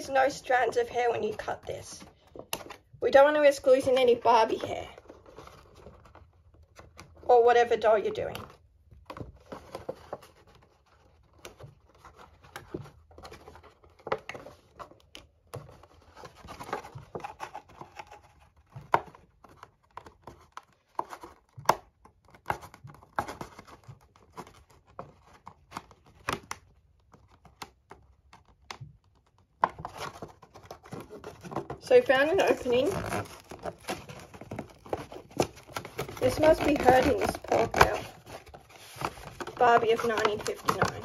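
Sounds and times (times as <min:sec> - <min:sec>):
packaging crinkling and tearing: 0:08.1 - 0:41.0.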